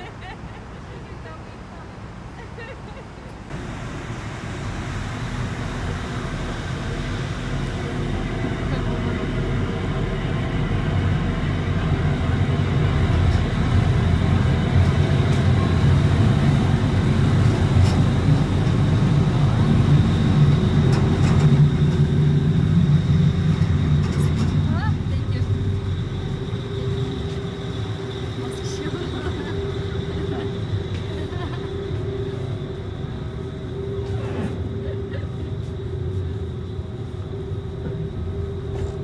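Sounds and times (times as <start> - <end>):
vehicle humming: 0.0 - 39.0
faint high whine: 3.5 - 39.0.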